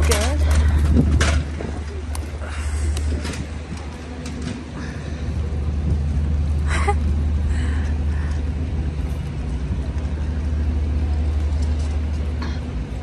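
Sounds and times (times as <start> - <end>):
city street noise: 0.0 - 13.0
engine idling hum: 0.0 - 13.0.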